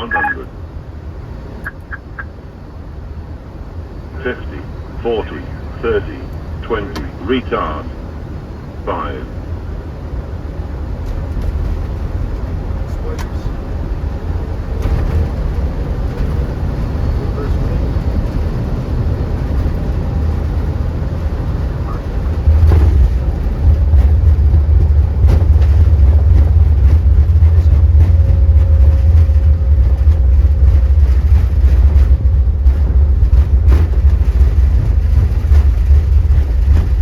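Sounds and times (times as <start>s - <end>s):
aircraft cockpit rumble: 0.0s - 37.0s.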